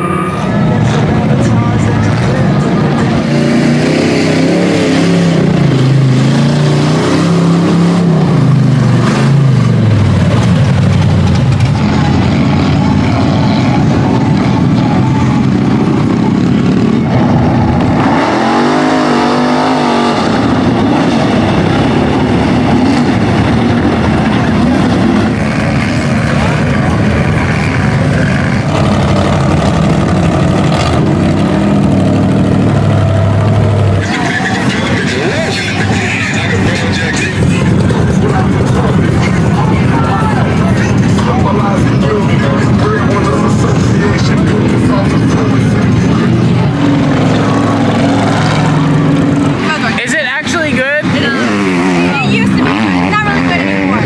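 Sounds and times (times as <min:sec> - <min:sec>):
tires churning through mud: 0:00.0 - 0:54.0
truck engine revving hard: 0:00.0 - 0:54.0.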